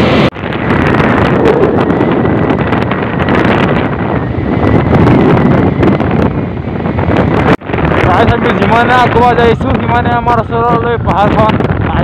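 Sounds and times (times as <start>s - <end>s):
motorbike running: 0.0s - 12.0s
road noise: 0.0s - 12.0s
wind noise on microphone: 0.0s - 12.0s.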